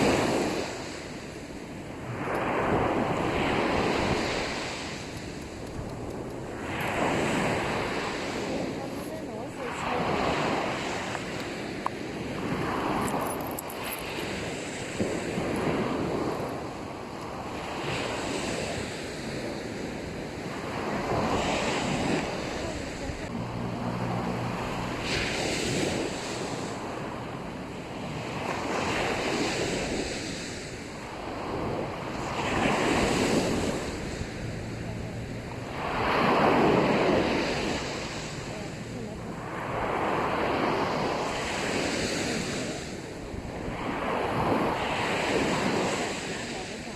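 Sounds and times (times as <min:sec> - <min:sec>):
sea waves breaking on beach: 0:00.0 - 0:46.9.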